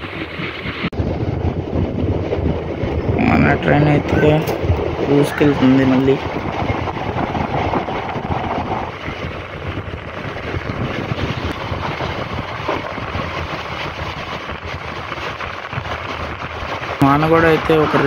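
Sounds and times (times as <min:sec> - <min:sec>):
electric train running: 0:00.0 - 0:18.0
wind rushing over microphone: 0:00.0 - 0:18.0.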